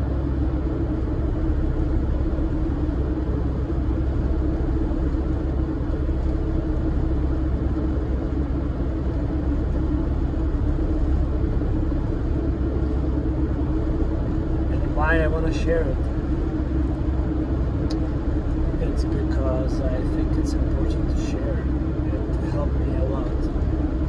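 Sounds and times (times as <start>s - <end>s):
steady hum: 0.0s - 24.0s
van engine and road rumble: 0.0s - 24.0s.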